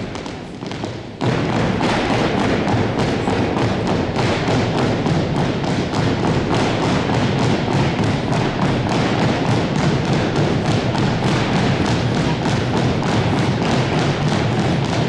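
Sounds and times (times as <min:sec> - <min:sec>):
feet stamping on wooden floor: 0:00.0 - 0:15.0.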